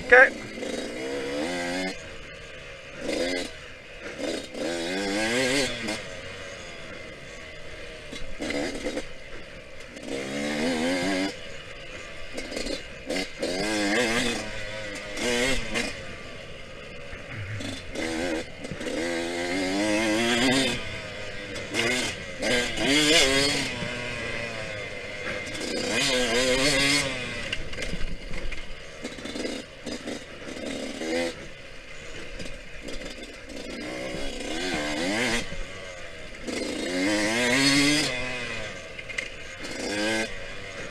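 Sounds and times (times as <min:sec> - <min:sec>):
motorcycle rattling: 0:00.0 - 0:40.9
two-stroke motorcycle engine revving: 0:00.0 - 0:40.9.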